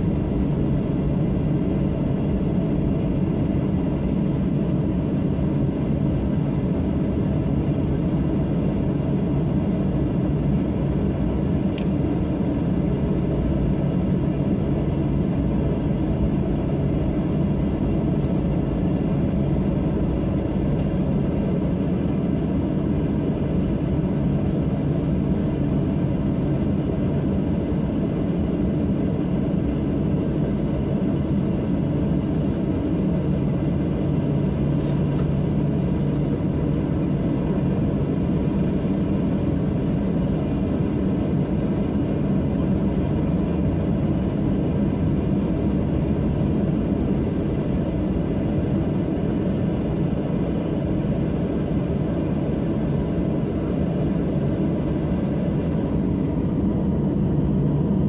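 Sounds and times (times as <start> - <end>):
jet engine rumble in cabin: 0.0 - 58.0.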